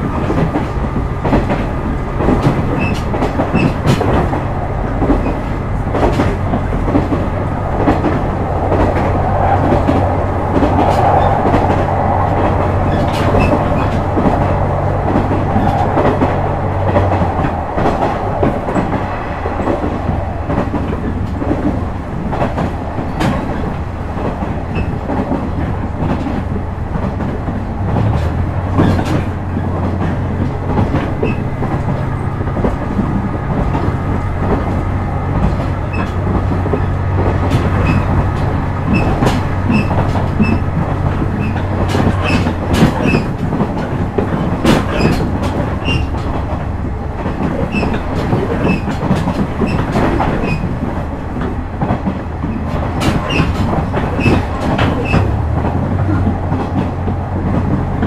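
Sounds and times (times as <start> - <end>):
train diesel engine droning: 0.0 - 58.0
train wheels clacking over rail joints: 0.0 - 58.0.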